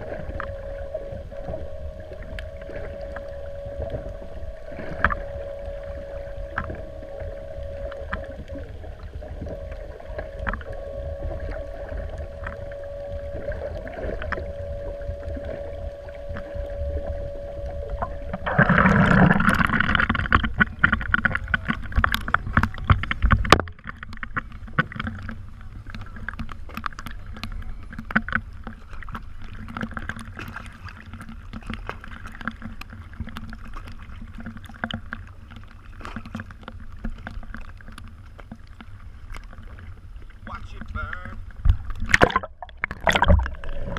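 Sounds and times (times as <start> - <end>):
boat engine hum: 0.0 - 43.9.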